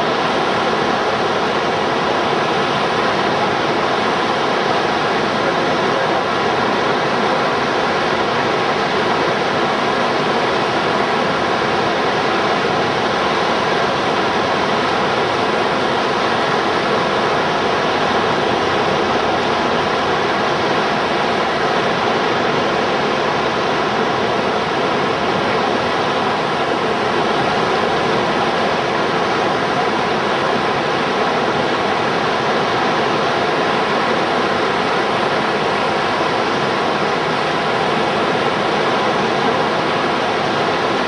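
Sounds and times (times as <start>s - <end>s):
river whitewater rushing: 0.0s - 41.0s.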